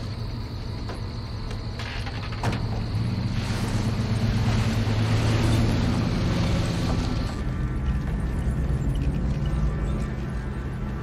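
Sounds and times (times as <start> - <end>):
road noise hiss: 0.0 - 11.0
truck engine rumbling: 0.0 - 11.0.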